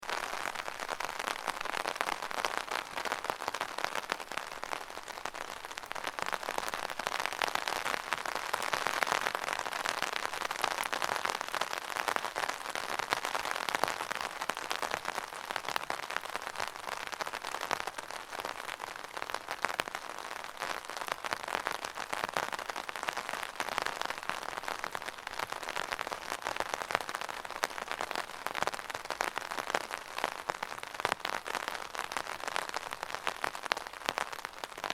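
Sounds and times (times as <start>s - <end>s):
rain on umbrella: 0.0s - 34.9s.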